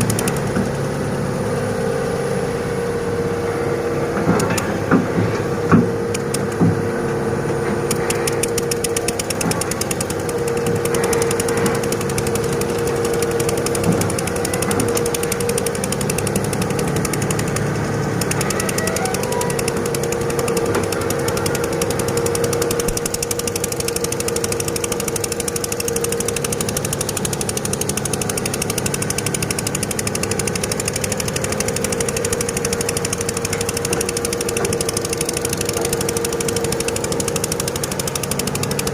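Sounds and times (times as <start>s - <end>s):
excavator engine rattling: 0.0s - 38.9s.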